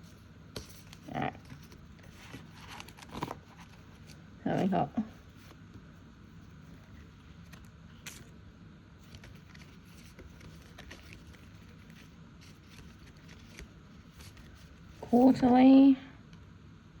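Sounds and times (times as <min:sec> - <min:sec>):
envelopes rustling: 0:00.1 - 0:08.4, 0:09.0 - 0:15.6.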